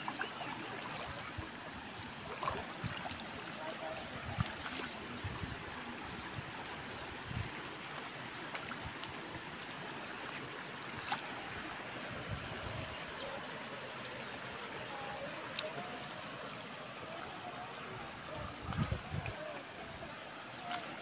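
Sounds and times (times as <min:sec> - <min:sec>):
water rippling over stones: 0:00.0 - 0:21.0.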